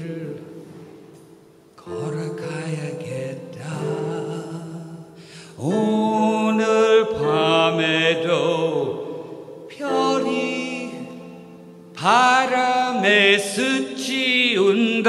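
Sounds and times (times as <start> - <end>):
person singing wordless melody: 0.0 - 1.1, 1.8 - 15.0
piano chords: 0.0 - 15.0.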